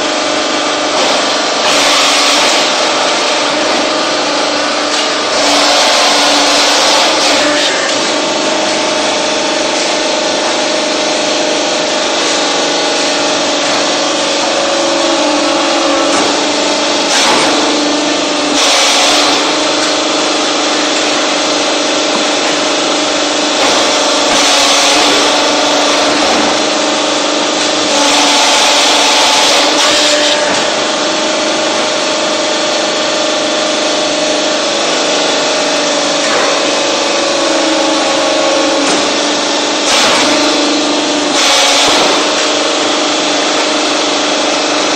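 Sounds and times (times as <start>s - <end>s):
machine humming: 0.0s - 44.9s.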